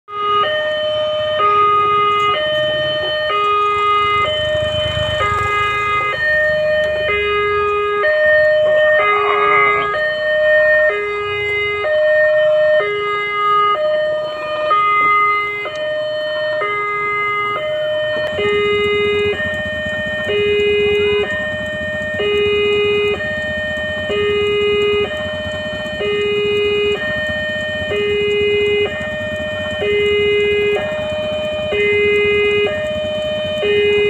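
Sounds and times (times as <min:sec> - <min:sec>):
level crossing two-tone alarm: 0:00.1 - 0:34.0.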